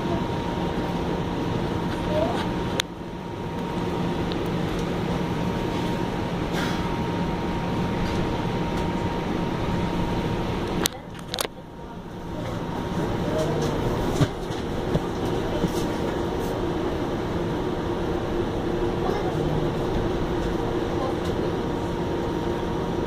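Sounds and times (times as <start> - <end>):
streetcar running rumble: 0.0 - 23.0
thin steady whine: 0.0 - 23.0.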